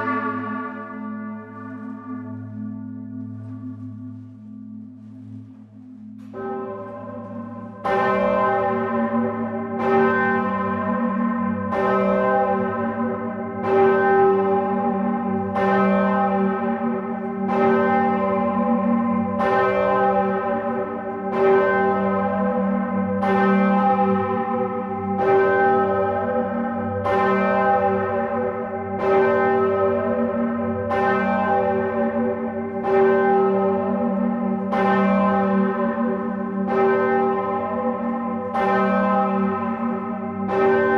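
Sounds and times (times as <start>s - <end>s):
church bells ringing: 0.0s - 40.9s
deep bell hum: 0.0s - 40.9s.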